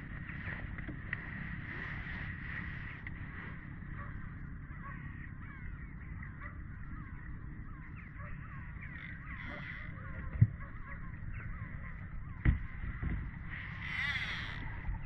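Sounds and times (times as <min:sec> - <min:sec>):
low steady rumble: 0:00.0 - 0:15.0
birds calling: 0:02.8 - 0:15.0.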